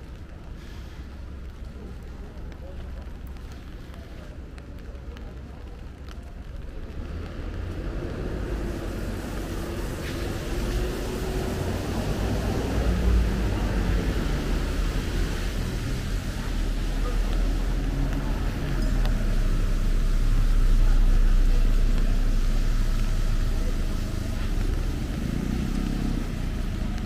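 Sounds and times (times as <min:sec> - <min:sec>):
road traffic rumble: 0:00.0 - 0:27.0
vehicle engine hum: 0:00.0 - 0:27.0
rain hiss: 0:00.1 - 0:27.0.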